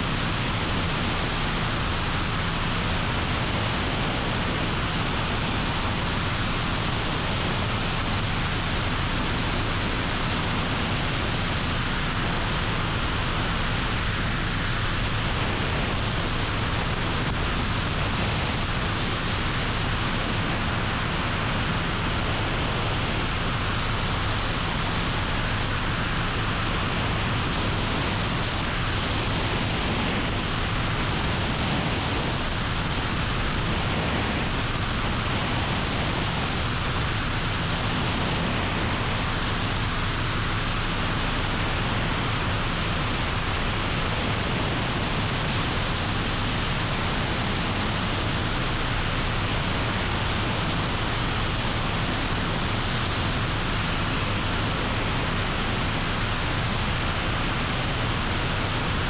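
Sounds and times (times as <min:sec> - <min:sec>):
helicopter engine and rotor noise: 0:00.0 - 0:59.0.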